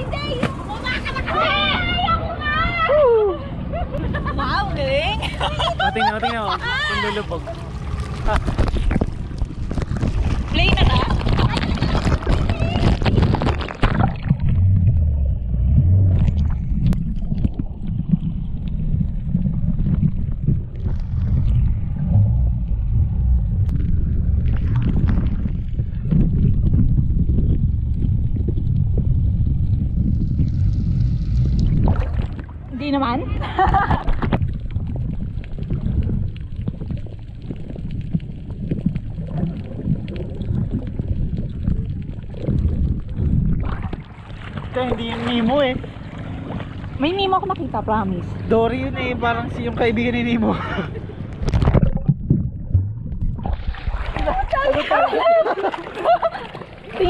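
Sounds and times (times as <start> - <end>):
underwater water rumble: 0.0 - 57.0.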